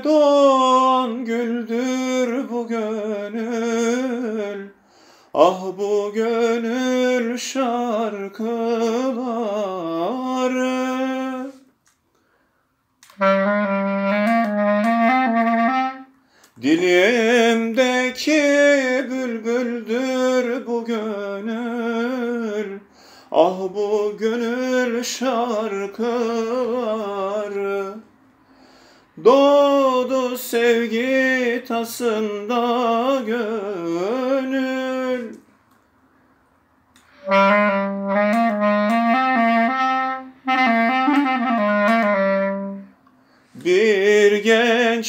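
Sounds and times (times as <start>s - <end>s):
man singing unaccompanied: 0.0s - 11.7s, 13.1s - 28.1s, 29.2s - 35.4s, 37.2s - 42.9s, 43.6s - 45.0s.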